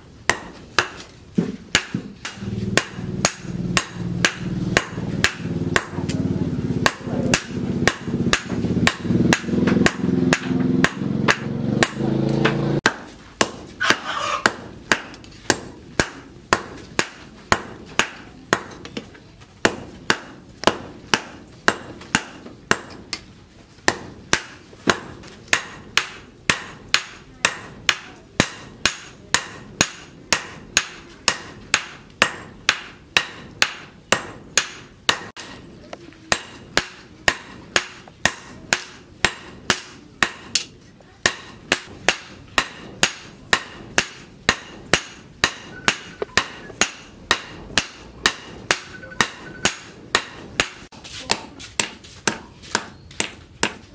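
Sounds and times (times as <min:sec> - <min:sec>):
sledgehammer clanging on hot steel: 0:00.0 - 0:06.2, 0:06.8 - 0:18.9, 0:23.9 - 0:53.0.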